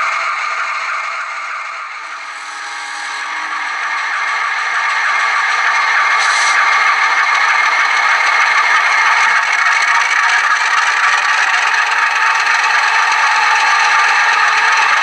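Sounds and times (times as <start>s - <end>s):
model locomotive rattling: 0.0s - 15.0s.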